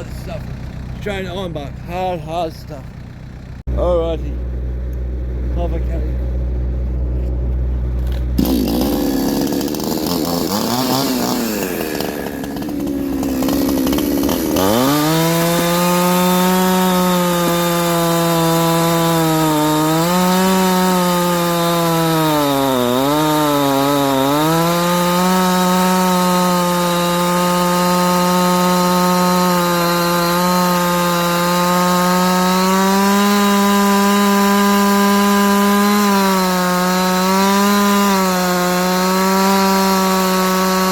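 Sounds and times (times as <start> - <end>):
chainsaw cutting wood: 7.4 - 40.9.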